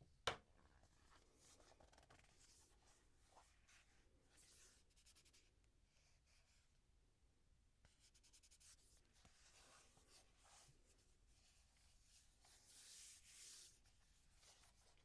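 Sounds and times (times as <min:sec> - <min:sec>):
soft rubbing and scratching: 0:00.7 - 0:06.7, 0:07.9 - 0:15.0.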